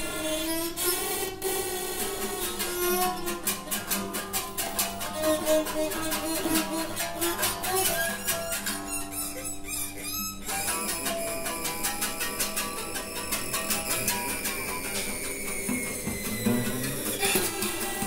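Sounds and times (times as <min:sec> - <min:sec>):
bowed acoustic guitar notes: 0:00.0 - 0:18.0.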